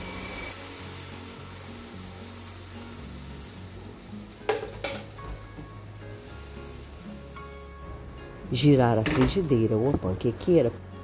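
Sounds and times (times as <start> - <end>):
batter sizzling in a pan: 0.0 - 9.9.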